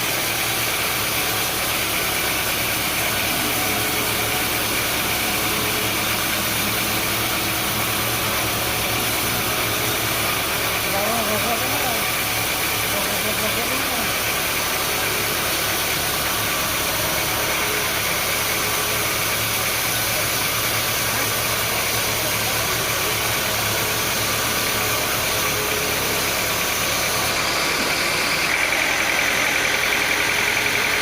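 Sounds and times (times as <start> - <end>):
high-pitched machine whine: 0.0 - 31.0
sawmill machinery engine drone: 0.0 - 31.0.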